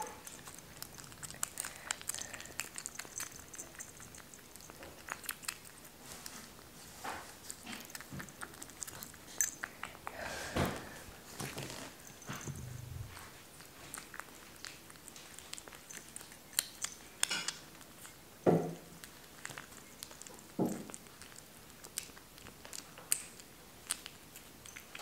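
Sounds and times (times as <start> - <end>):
kitten chewing and lapping: 0.0 - 25.0.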